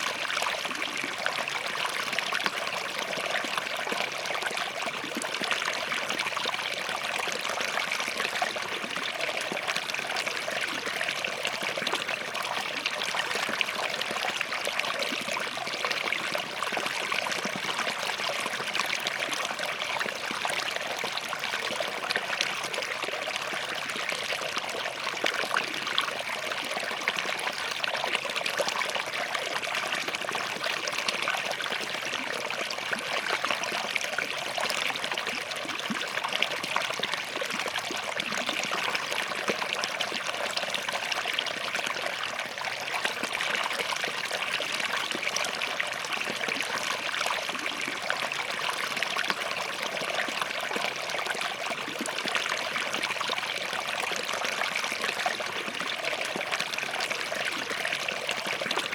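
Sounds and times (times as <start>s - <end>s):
stream babbling over rocks: 0.0s - 58.9s.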